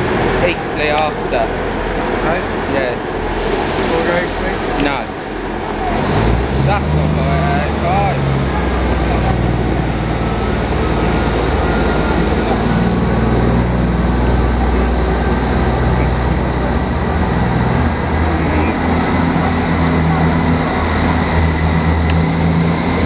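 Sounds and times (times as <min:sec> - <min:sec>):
diesel train engines idling: 0:00.0 - 0:23.0.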